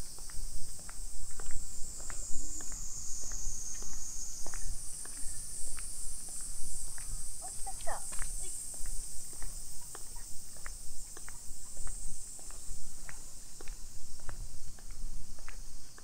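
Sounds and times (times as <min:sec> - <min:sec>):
cicadas chorus: 0:00.0 - 0:16.0
footsteps on brick path: 0:00.0 - 0:16.0.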